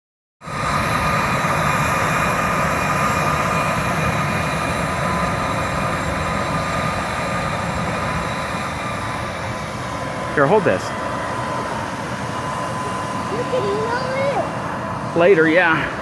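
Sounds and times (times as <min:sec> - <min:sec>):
jet engines whining at taxi power: 0:00.4 - 0:16.0.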